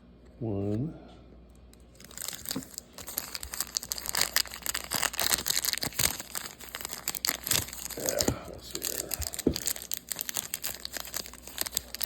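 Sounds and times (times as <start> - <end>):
cellophane wrapper crinkling: 1.7 - 12.0.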